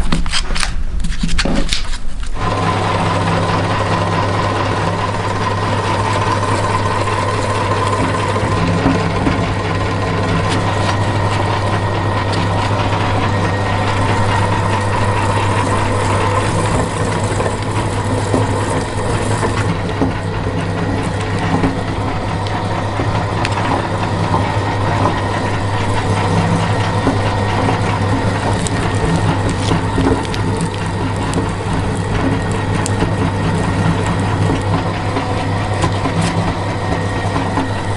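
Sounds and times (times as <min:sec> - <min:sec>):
electric meat grinder drone: 0:02.4 - 0:37.9.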